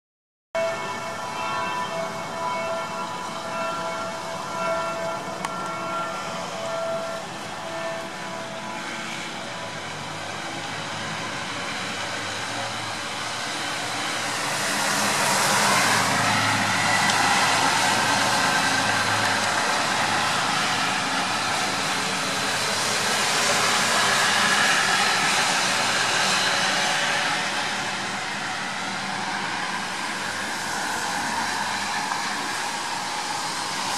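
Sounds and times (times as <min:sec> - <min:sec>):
distant traffic: 0:00.6 - 0:33.9.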